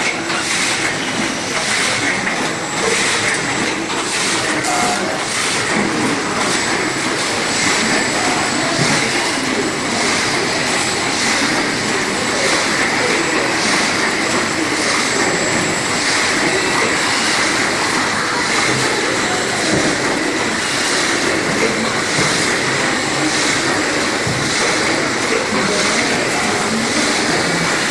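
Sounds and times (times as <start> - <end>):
die cutting machine running: 0.0 - 27.9.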